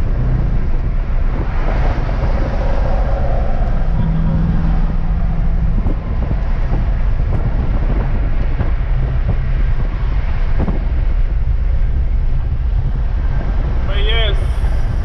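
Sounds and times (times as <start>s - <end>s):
car engine driving: 0.0s - 15.0s
tyre and wind noise: 0.0s - 15.0s.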